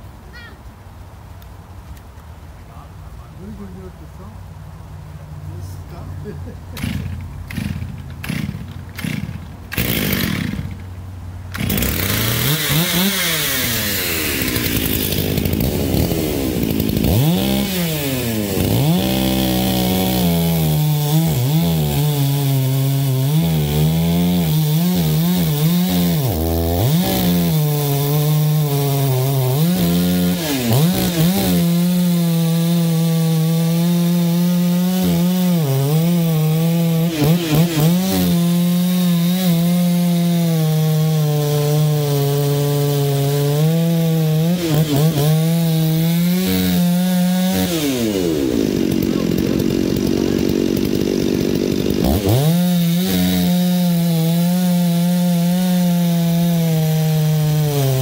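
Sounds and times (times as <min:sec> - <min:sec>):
chainsaw engine running: 0:06.2 - 0:10.9, 0:11.5 - 0:58.0.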